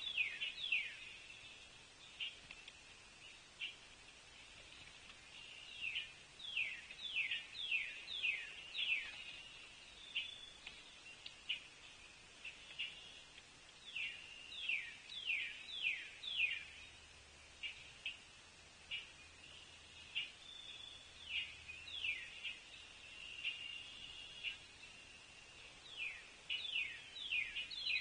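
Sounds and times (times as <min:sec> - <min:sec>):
songbird whistled song: 0:00.0 - 0:03.8, 0:04.7 - 0:18.3, 0:18.9 - 0:28.0.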